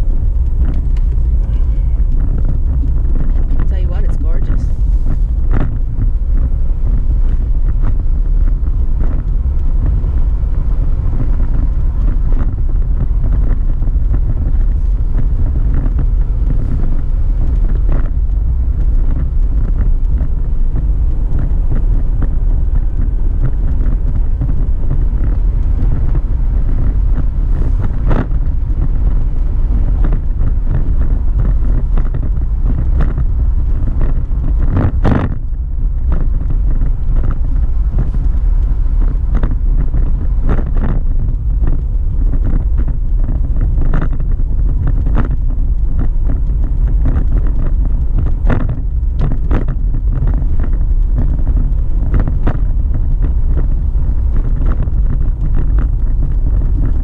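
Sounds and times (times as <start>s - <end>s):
road and engine rumble: 0.0s - 57.0s
wind buffeting microphone: 0.0s - 57.0s.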